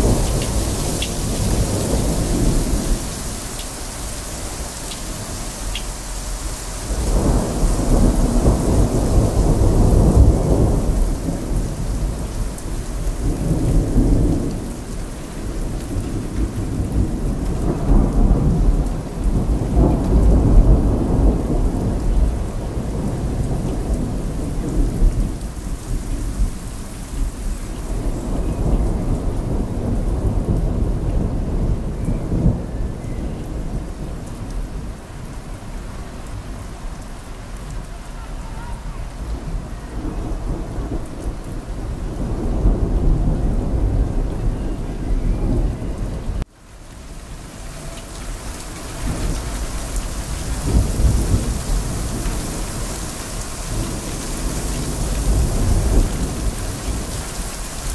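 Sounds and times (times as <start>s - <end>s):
rumbling thunder: 0.0s - 35.0s, 39.0s - 46.5s, 47.2s - 57.9s
heavy rain: 0.0s - 57.9s.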